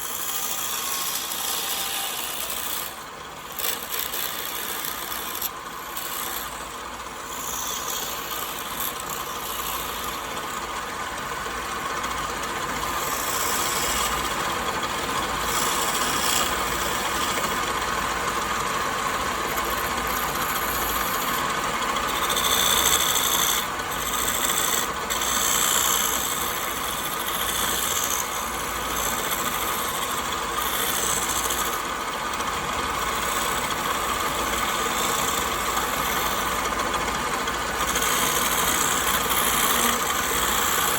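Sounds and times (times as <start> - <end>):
power tool sanding wood: 0.0 - 10.6, 11.9 - 18.6, 19.3 - 40.9.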